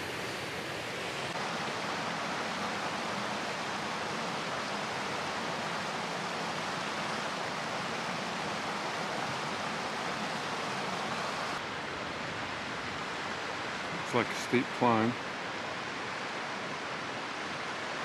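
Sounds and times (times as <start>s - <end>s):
running water rushing: 0.0s - 18.0s.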